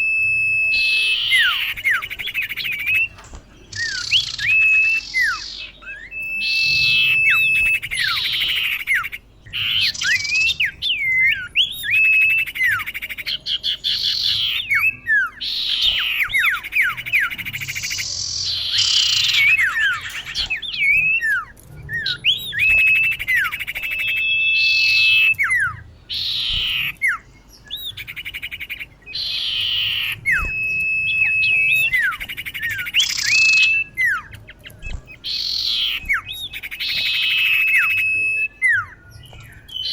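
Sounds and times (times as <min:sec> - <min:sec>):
bird whistled chirps: 0:00.0 - 0:39.9.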